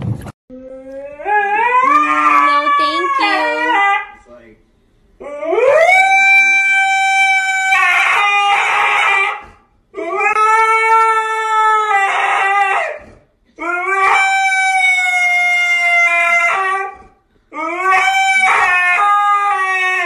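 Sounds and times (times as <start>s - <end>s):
husky howling: 0.5s - 4.2s, 5.2s - 20.0s.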